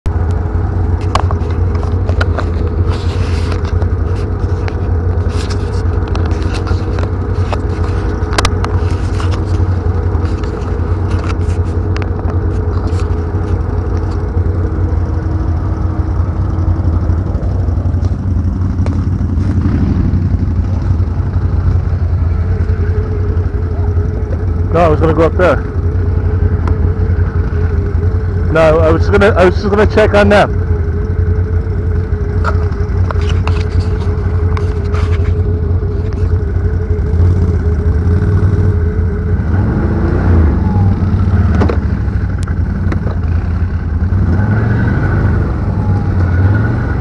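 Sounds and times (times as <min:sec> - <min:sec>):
loud low mechanical drone: 0:00.1 - 0:47.0.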